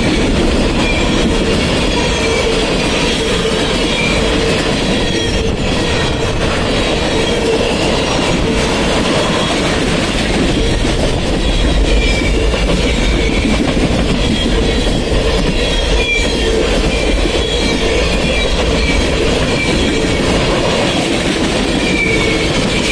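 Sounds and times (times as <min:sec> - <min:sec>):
high wheel squeals: 0:00.0 - 0:09.8, 0:10.4 - 0:22.9
train wheels rumbling and clattering: 0:00.0 - 0:22.9.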